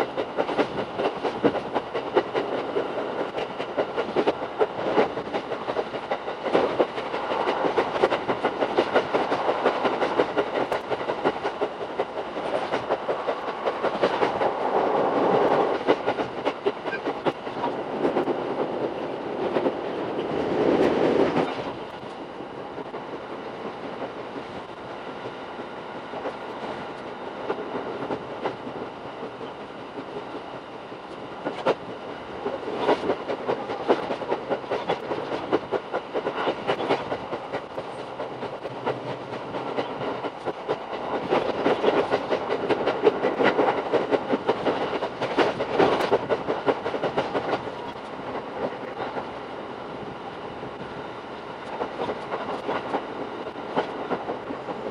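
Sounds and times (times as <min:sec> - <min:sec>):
wheels clicking on rails: 0:00.0 - 0:25.0, 0:26.0 - 0:54.9
train running rumble: 0:00.0 - 0:54.9.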